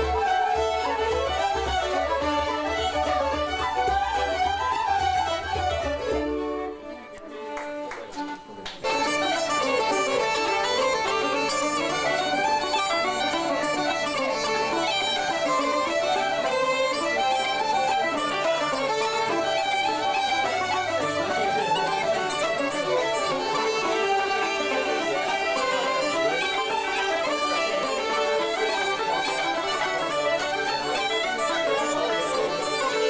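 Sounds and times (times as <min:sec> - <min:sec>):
bagpipes playing folk tune: 0:00.0 - 0:33.0
fiddle playing: 0:00.0 - 0:33.0.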